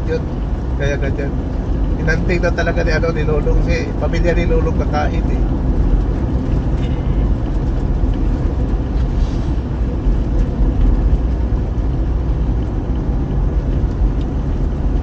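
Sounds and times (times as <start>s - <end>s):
car engine: 0.0s - 15.0s
road noise: 0.0s - 15.0s.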